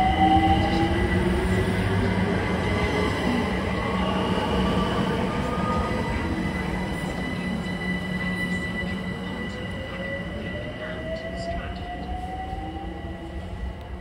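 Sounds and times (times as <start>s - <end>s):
train whining tones: 0.0s - 14.0s.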